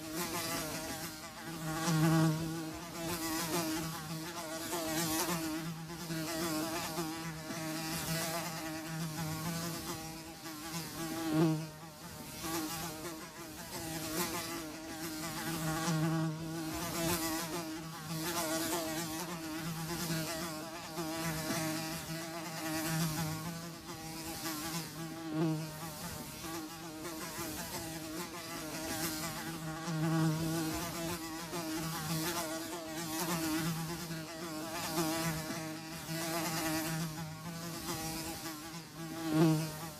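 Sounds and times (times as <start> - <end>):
houseflies buzzing: 0.0 - 39.9.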